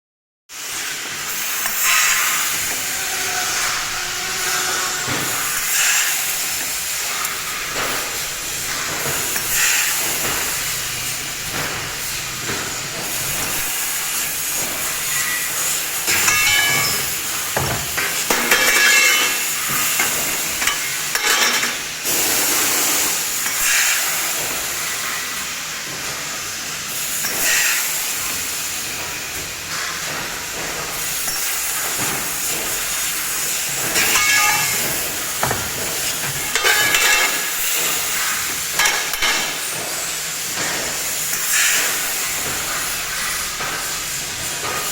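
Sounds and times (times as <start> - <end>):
laser cutter gas hissing: 0.6 - 44.9.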